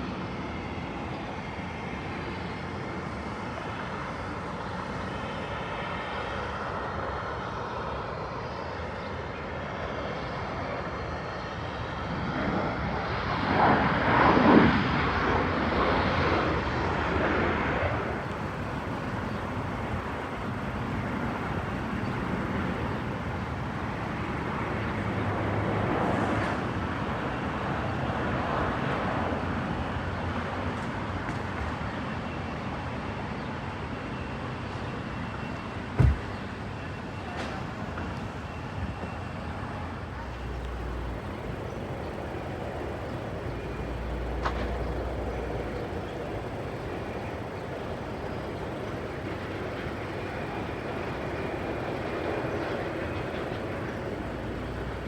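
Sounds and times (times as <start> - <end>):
jet aircraft engine rumble: 0.0 - 32.4, 34.6 - 55.0.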